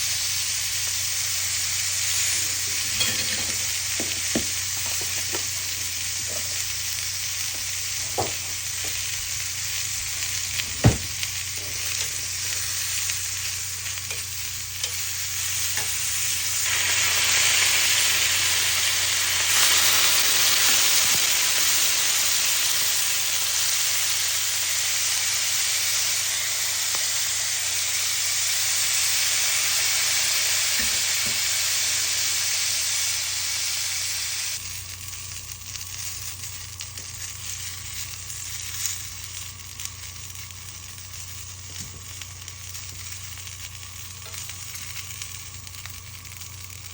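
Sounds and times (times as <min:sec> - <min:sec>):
fish sizzling on a grill: 0:00.0 - 0:46.9.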